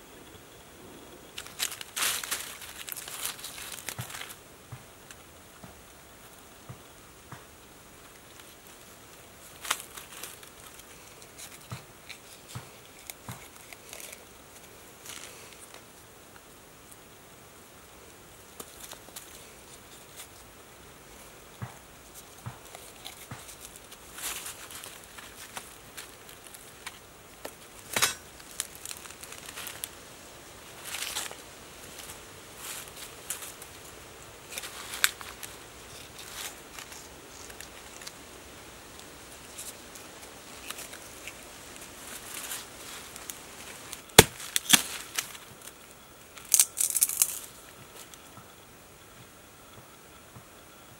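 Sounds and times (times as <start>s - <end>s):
faint steady hiss: 0.0s - 50.9s
rotten wood crackling and splitting: 1.3s - 17.1s, 17.8s - 49.1s
soft rustling: 1.4s - 5.2s, 8.0s - 16.1s, 18.1s - 48.6s.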